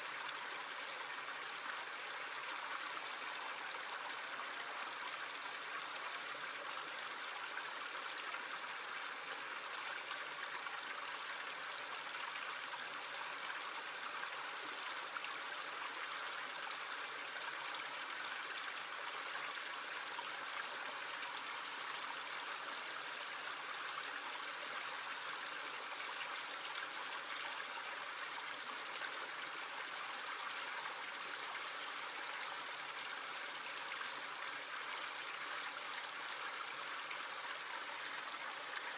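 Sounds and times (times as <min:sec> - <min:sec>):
small stream babbling: 0:00.0 - 0:38.9.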